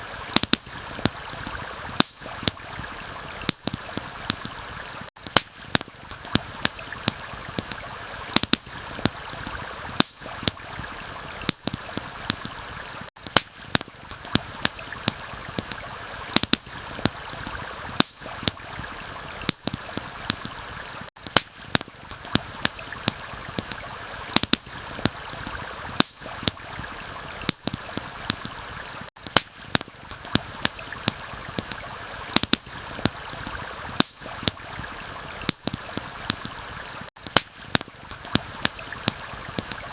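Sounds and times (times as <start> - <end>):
stream rushing: 0.0 - 37.1
campfire popping and crackling: 0.0 - 39.9.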